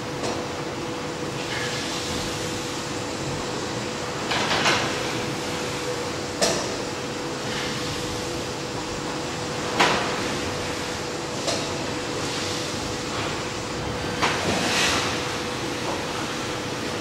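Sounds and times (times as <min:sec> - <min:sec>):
mechanical hum with whine: 0:00.0 - 0:17.0.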